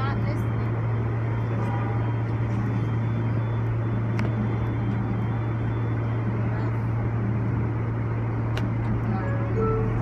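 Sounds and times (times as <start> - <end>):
low hum inside subway car: 0.0 - 10.0.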